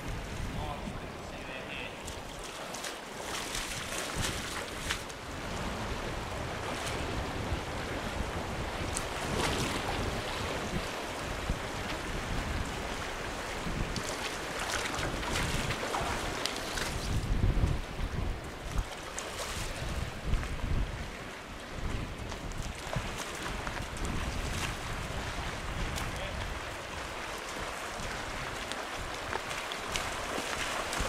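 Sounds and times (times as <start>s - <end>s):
stream over stones: 0.0s - 31.0s
wind rumbling on microphone: 0.0s - 31.0s.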